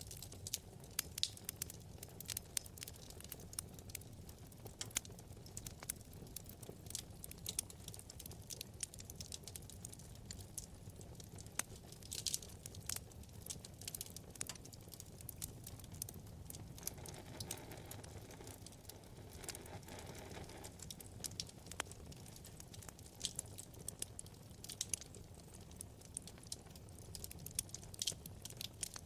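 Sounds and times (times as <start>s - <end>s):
crackles and pops of burning logs: 0.0s - 29.0s
fire burning in fireplace: 0.0s - 29.0s.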